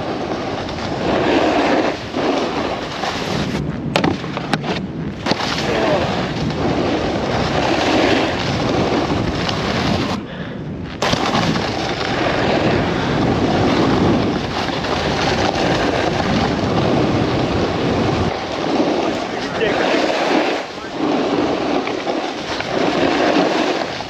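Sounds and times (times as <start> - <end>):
snowboard scraping on snow: 0.0 - 10.2, 10.9 - 24.0
wind rushing over camera: 0.0 - 24.0.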